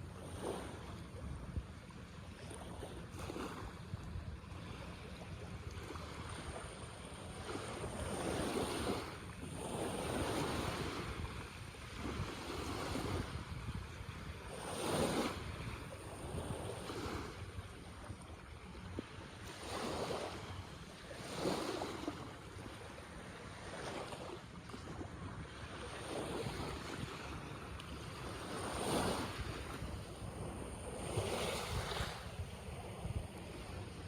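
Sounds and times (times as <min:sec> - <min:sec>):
sea waves breaking on shore: 0:00.0 - 0:34.0
wind rumbling on microphone: 0:00.0 - 0:34.0.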